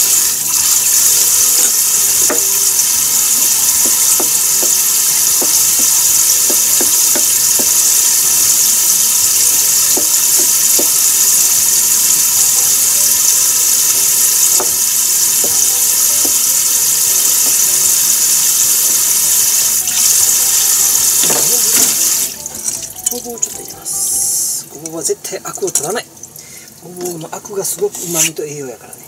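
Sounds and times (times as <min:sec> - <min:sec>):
steady loud hiss: 0:00.0 - 0:25.2.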